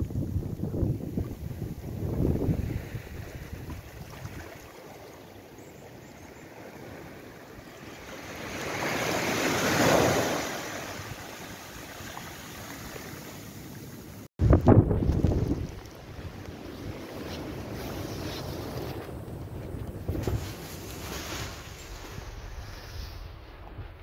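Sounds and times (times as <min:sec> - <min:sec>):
small waves breaking on beach: 0:00.7 - 0:14.3, 0:15.1 - 0:24.0.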